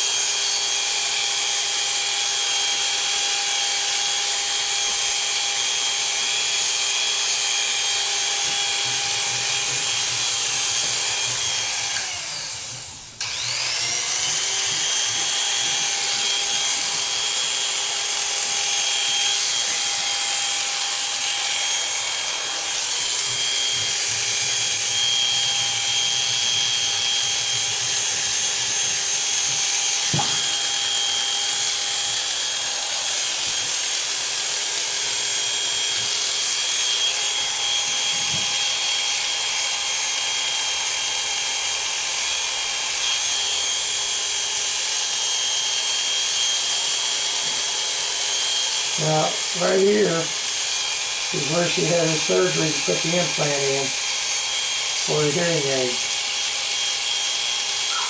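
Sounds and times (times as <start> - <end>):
electric hair clippers buzzing: 0.0 - 58.0.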